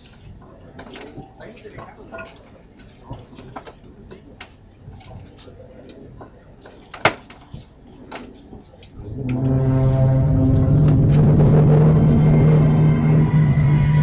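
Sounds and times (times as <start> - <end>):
crowd murmur: 0.0 - 14.0.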